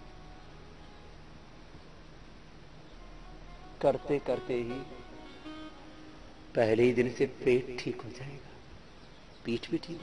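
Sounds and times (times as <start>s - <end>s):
background hiss: 0.0s - 10.0s
faint hum: 0.0s - 10.0s.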